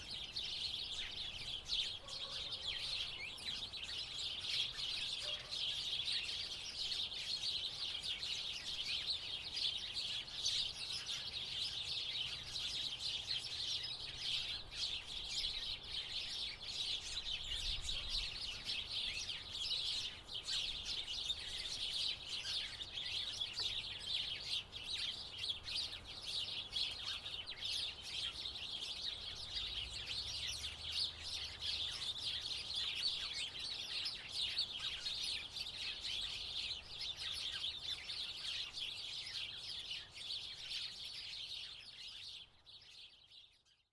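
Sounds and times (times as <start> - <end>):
sparrows chirping: 0.0 - 43.9.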